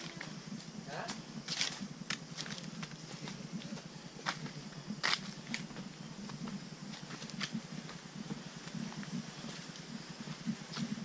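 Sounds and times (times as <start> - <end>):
footsteps crunching on trail: 0.0 - 11.0.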